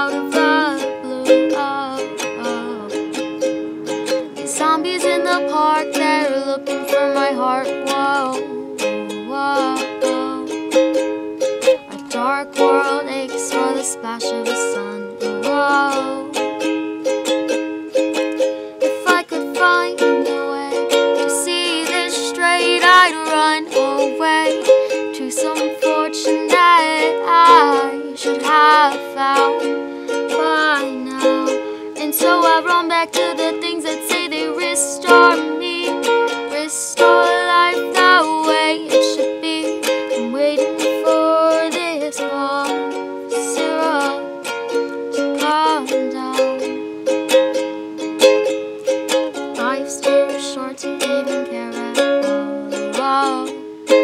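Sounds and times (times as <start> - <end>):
woman singing: 0.0 - 3.2, 4.4 - 10.8, 11.8 - 16.7, 18.8 - 46.8, 49.1 - 54.0
strummed ukulele: 0.0 - 54.0.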